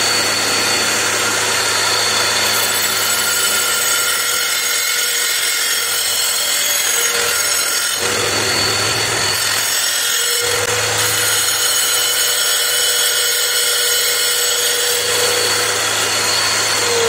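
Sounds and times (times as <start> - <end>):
tile saw grinding rock: 0.0 - 17.0.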